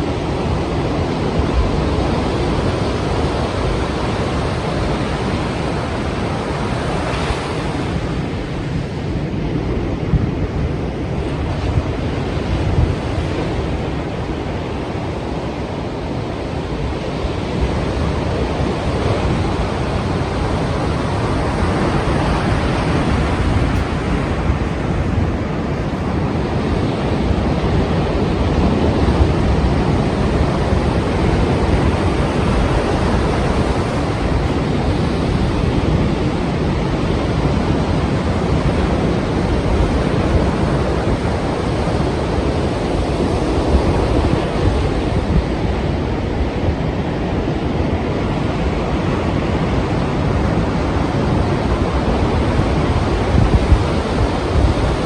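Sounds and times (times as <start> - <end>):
waves breaking: 0.0 - 55.0
wind: 0.0 - 55.0.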